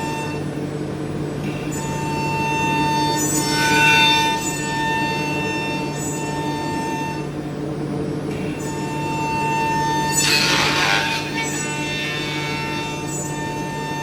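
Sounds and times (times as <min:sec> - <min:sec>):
woodworking machinery whining: 0:00.0 - 0:14.0.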